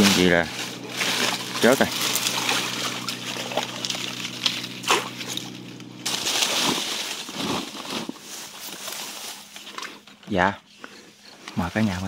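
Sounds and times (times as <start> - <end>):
low hum: 0.0 - 12.0
water sloshing and splashing: 0.1 - 10.0.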